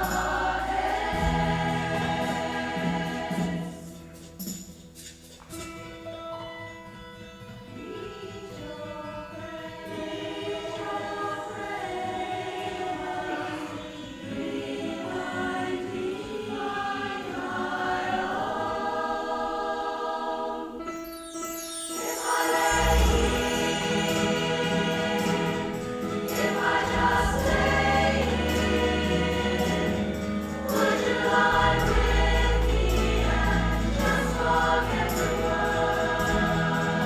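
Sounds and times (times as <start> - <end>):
women's choir singing: 0.0 - 4.2, 7.8 - 20.9, 21.9 - 37.0.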